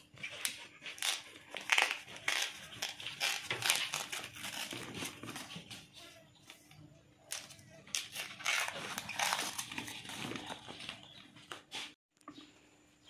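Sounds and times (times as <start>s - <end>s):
bamboo husk rustling and crackling: 0.2s - 6.1s, 7.3s - 12.0s.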